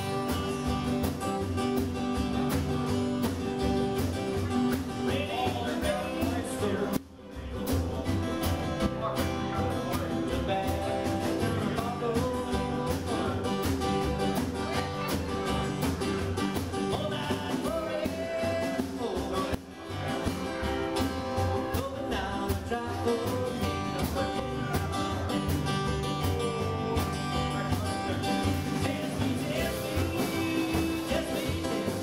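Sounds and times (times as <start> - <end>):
acoustic guitar strumming: 0.0 - 32.0
drums keeping a beat: 0.0 - 32.0
person singing: 5.0 - 8.1, 9.0 - 32.0.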